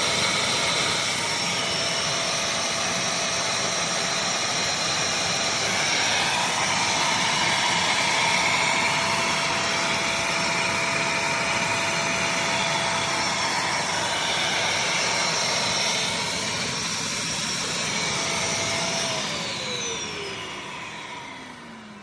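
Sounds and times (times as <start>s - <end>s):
vacuum whining and spinning down: 0.0s - 22.0s.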